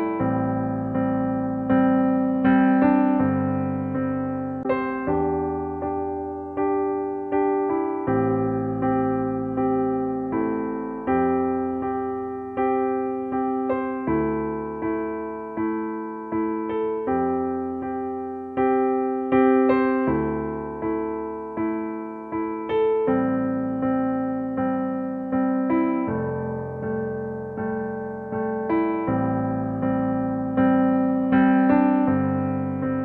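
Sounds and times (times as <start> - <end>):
slow piano music: 0.0 - 33.0.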